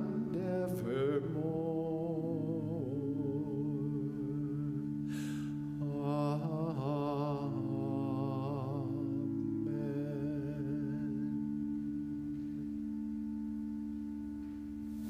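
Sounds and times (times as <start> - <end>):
person singing with vibrato: 0.0 - 13.1
sustained keyboard chord: 0.0 - 15.0.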